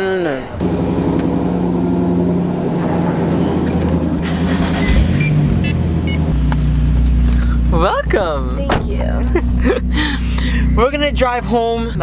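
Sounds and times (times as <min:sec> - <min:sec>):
car engine idling: 0:00.6 - 0:12.0.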